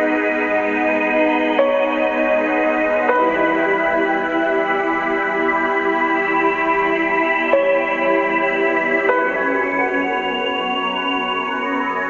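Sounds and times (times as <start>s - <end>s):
ambient relaxation music: 0.0s - 12.0s.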